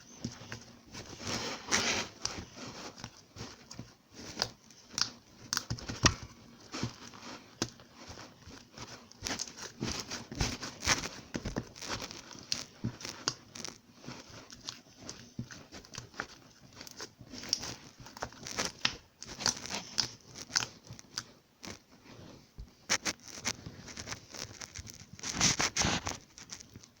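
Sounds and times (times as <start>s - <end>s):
crinkling and rustling with clicks: 0.0s - 27.0s.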